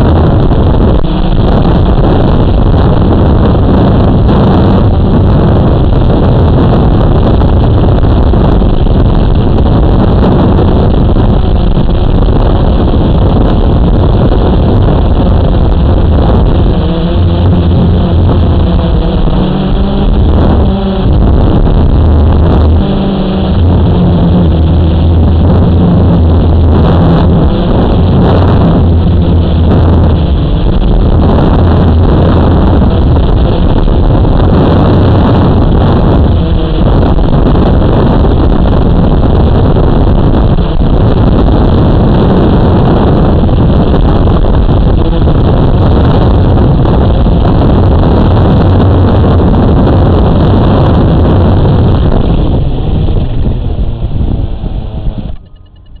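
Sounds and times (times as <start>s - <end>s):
drone motors buzzing: 0.0s - 56.0s
wind on microphone: 0.0s - 56.0s.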